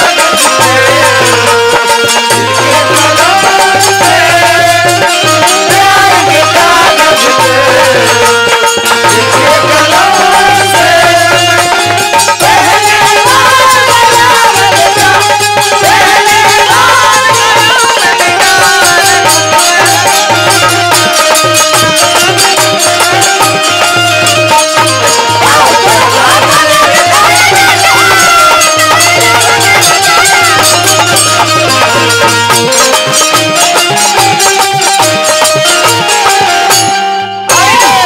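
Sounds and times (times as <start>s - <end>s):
folk stage music over speakers: 0.0s - 38.0s.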